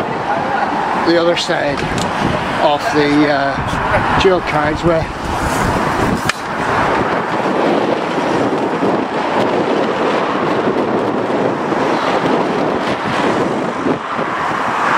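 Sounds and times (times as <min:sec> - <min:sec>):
road traffic: 0:00.0 - 0:14.9
wind on microphone: 0:00.0 - 0:14.9.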